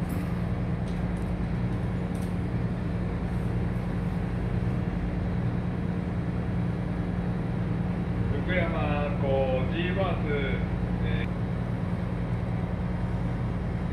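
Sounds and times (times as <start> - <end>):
ship engine droning: 0.0 - 13.9.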